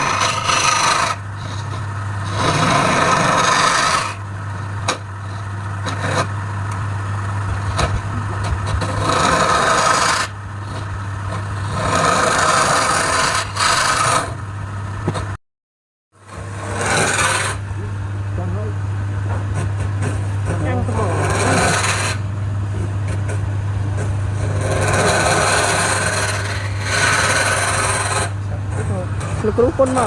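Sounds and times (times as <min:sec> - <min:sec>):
wood lathe motor hum: 0:00.0 - 0:15.3, 0:16.2 - 0:30.0
tool rasping on spinning wood: 0:00.0 - 0:15.4, 0:16.2 - 0:30.0.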